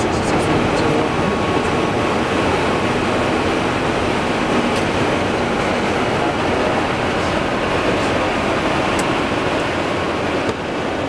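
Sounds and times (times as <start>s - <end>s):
aircraft engine noise: 0.0s - 11.0s
airflow rushing: 0.0s - 11.0s.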